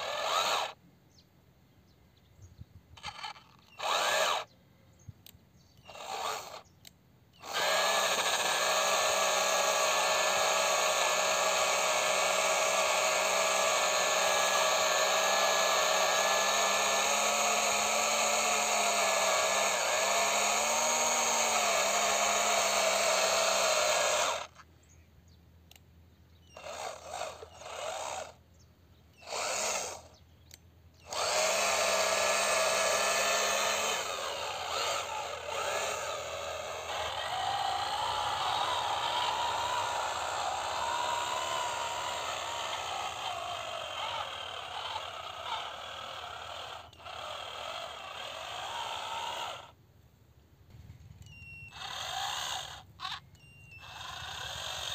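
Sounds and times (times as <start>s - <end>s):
small electric motor whining: 0.0s - 0.8s, 3.0s - 4.6s, 5.8s - 24.7s, 26.4s - 28.4s, 29.2s - 49.8s, 50.9s - 54.9s.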